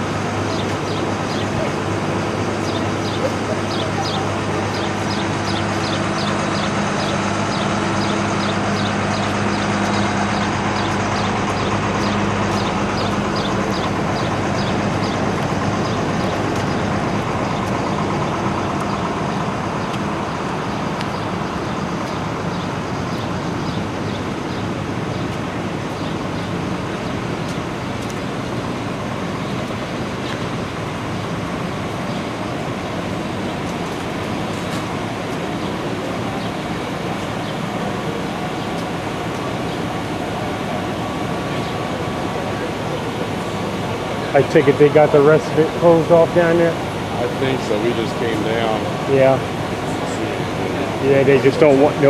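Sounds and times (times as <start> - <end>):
truck engines idling: 0.0 - 52.0.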